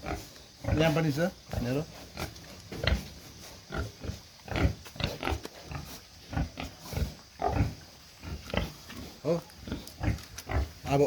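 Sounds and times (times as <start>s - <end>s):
pigs grunting: 0.0s - 11.0s.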